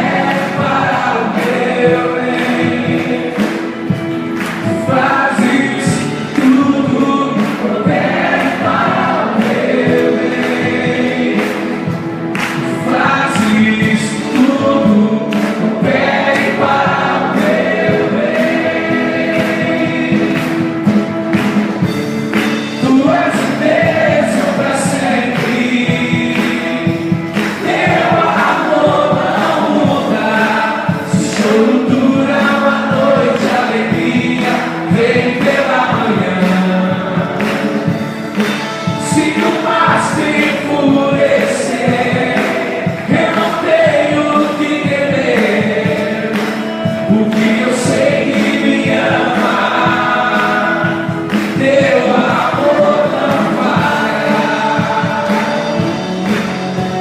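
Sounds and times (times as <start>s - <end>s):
group singing gospel song: 0.0s - 57.0s
instrumental accompaniment: 0.0s - 57.0s.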